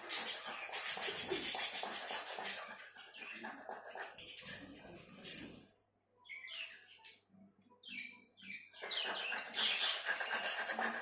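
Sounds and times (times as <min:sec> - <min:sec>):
parrot chirping and chattering: 0:00.0 - 0:11.0.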